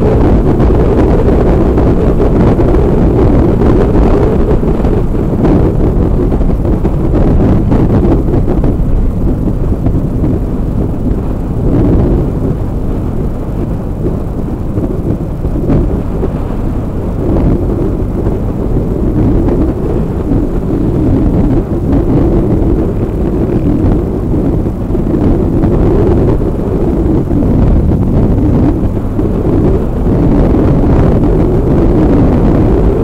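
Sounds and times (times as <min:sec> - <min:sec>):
motorcycle engine running: 0:00.0 - 0:33.0
wind buffeting microphone: 0:00.0 - 0:33.0.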